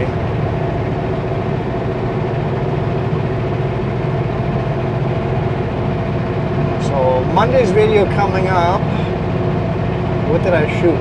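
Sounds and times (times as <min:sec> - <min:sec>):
road rumble: 0:00.0 - 0:11.0
truck diesel engine running: 0:00.0 - 0:11.0.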